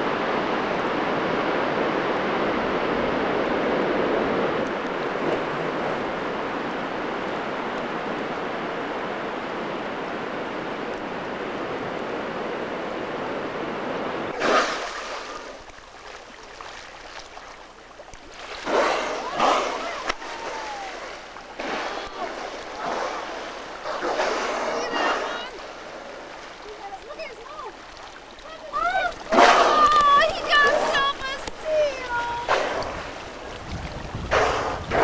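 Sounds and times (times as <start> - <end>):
quiet water sound: 0.0 - 35.0.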